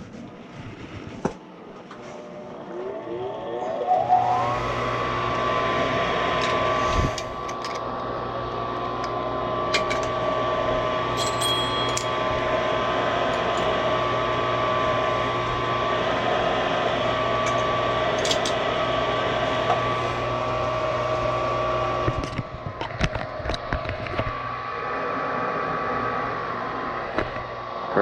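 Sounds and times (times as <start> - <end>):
furnace fan motor whirring: 0.0 - 28.0.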